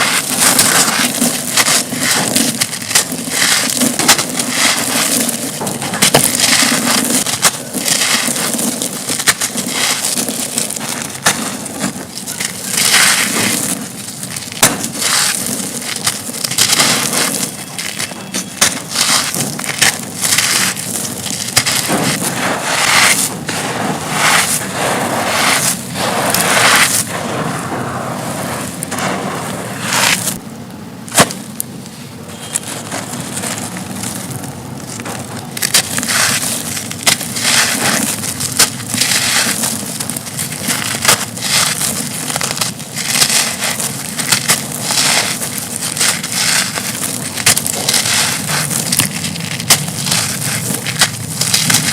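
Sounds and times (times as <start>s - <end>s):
concrete chunks crunching: 0.0s - 51.9s.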